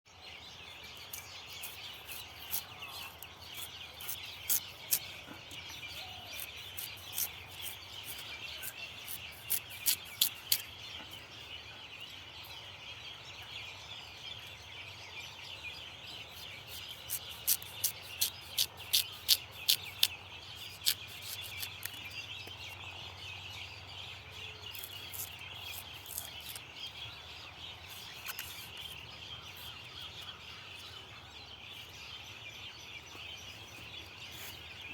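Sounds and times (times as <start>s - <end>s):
birds chirping and calling: 0.2s - 34.9s.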